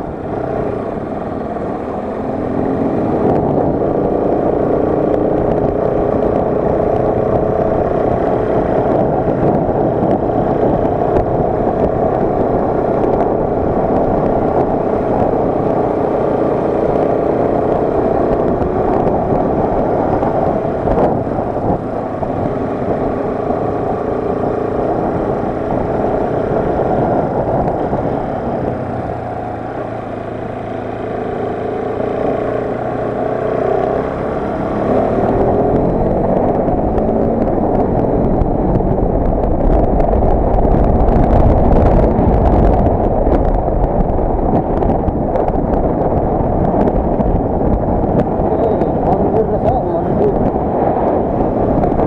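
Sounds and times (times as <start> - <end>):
motorcycle engine revving: 0.0 - 52.0
wind rumble on microphone: 0.0 - 52.0.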